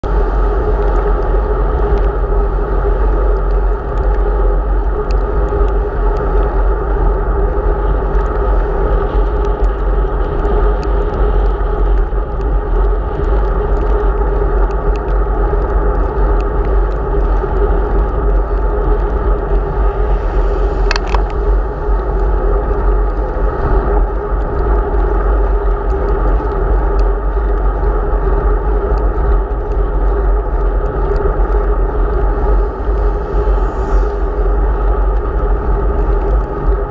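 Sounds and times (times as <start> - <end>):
tyre noise on wet asphalt: 0.0 - 36.9
wind rumble on microphone: 0.0 - 36.9.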